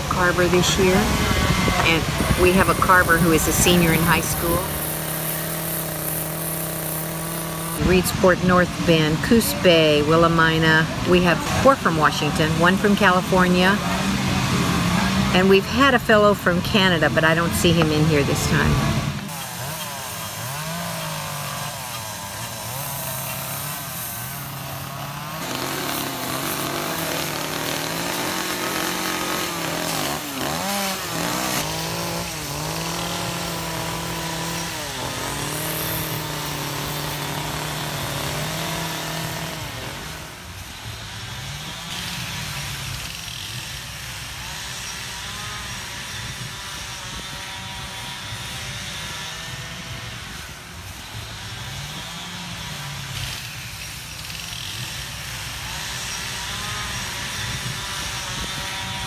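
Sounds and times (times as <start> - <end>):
chainsaws revving and cutting wood: 0.0 - 59.0.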